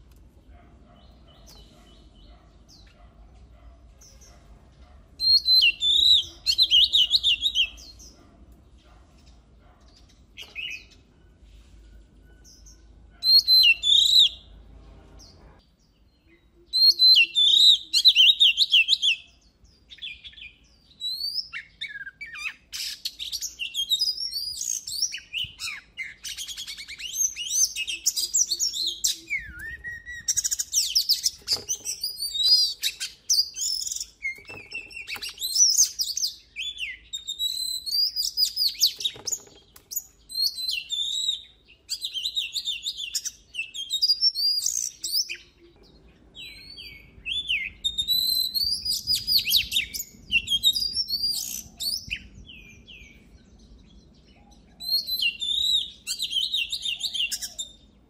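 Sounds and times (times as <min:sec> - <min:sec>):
bird singing whistles and trills: 0:05.2 - 0:08.3, 0:09.8 - 0:14.6, 0:16.1 - 0:57.9.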